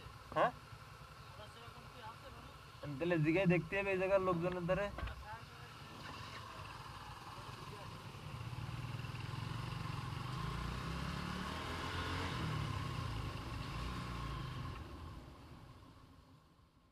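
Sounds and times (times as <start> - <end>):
motorcycle engine running: 0.0 - 16.5.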